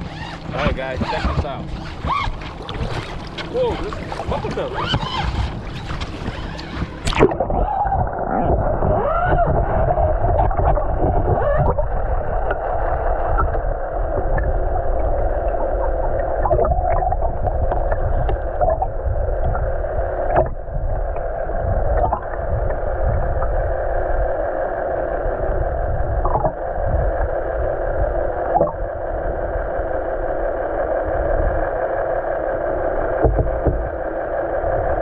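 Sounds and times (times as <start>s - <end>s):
underwater watery rush: 0.0s - 35.0s.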